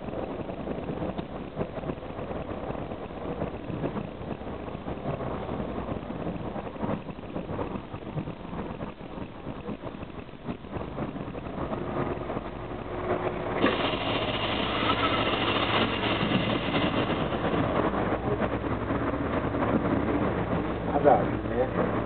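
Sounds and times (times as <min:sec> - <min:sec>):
bus diesel engine: 0:00.0 - 0:22.0
road noise: 0:00.0 - 0:22.0.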